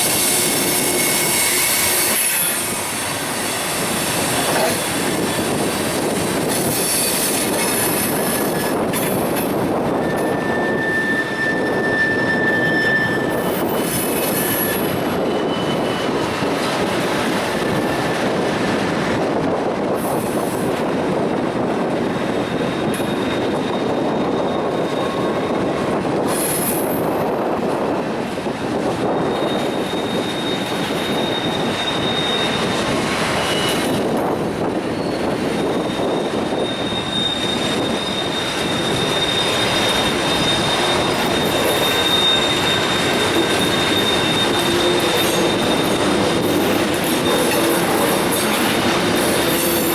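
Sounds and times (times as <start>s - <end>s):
wheel flange squeal: 0.0s - 16.6s, 22.4s - 27.3s, 29.0s - 49.9s
freight train cars rumbling: 0.0s - 49.9s.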